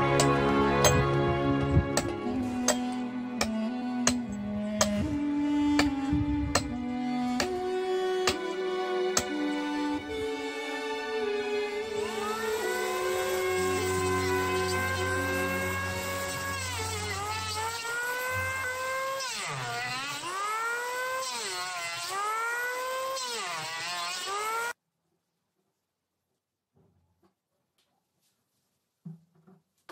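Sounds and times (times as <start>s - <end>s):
electric planer cutting wood: 0.0s - 24.8s.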